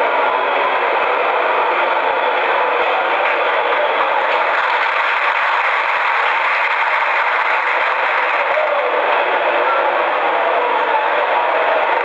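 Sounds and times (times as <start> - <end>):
crowd talking: 0.0 - 12.0.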